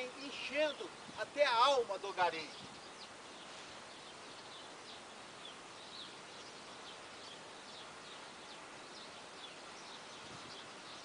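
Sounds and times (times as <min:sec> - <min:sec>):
birds chirping: 0:00.0 - 0:11.0
faint outdoor hiss: 0:00.0 - 0:11.0.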